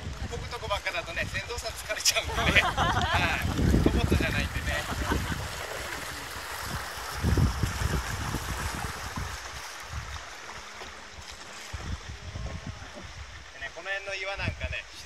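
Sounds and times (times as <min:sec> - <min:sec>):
river water rushing past hull: 0:00.0 - 0:15.0.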